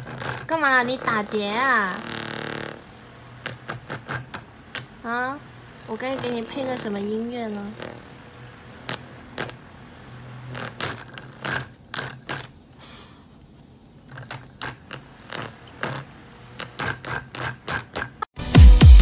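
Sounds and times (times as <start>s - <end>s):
fan blades clicking and scraping: 0.0s - 18.3s
toy fan humming: 0.0s - 18.3s.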